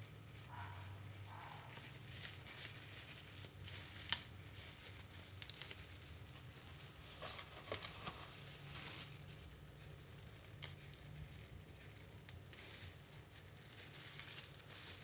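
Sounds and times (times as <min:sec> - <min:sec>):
leaf and plastic glove rustling: 0:00.0 - 0:15.0.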